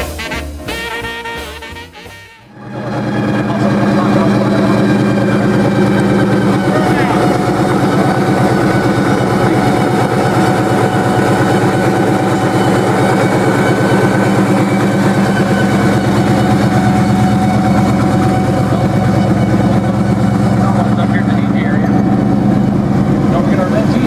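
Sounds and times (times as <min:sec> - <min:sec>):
vehicle engine idling: 0:02.5 - 0:24.0.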